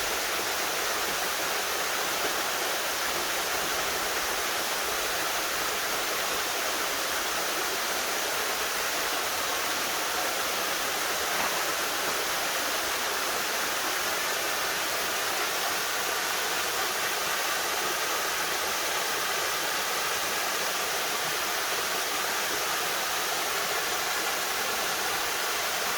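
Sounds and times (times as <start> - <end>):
small waterfall cascading: 0.0 - 25.9.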